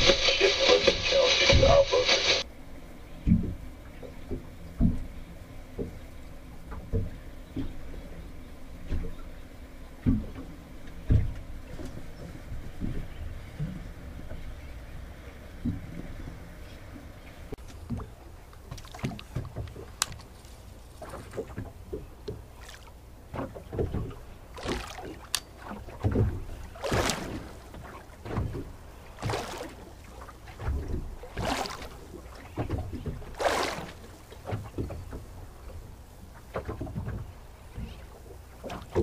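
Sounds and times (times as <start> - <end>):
low steady rumble: 0.0 - 39.0
waves slapping against boat hull: 0.0 - 39.0.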